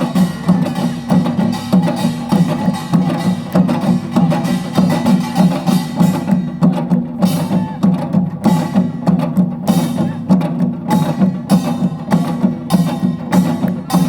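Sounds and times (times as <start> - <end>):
gongs and drums playing: 0.0 - 14.0.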